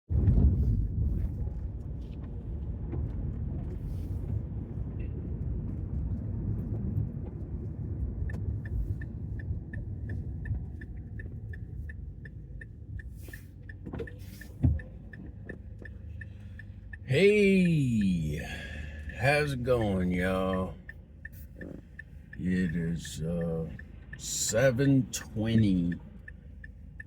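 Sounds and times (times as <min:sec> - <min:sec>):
car cabin road rumble: 0:00.1 - 0:27.0
turn signal ticking: 0:00.2 - 0:27.0.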